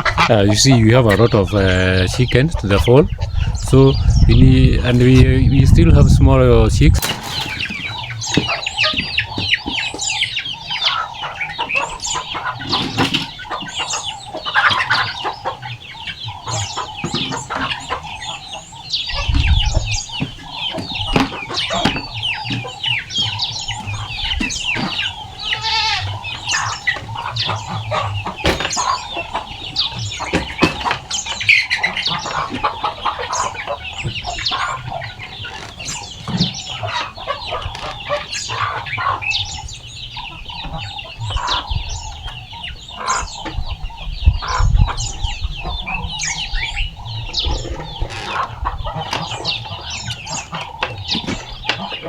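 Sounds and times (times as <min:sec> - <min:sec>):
chicks peeping: 0:00.0 - 0:52.0
hens clucking: 0:00.0 - 0:52.0.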